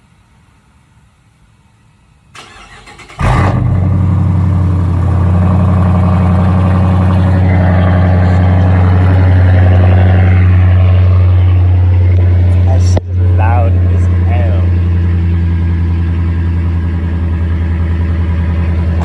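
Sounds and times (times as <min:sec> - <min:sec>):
car engine idling loudly: 0:03.2 - 0:19.0.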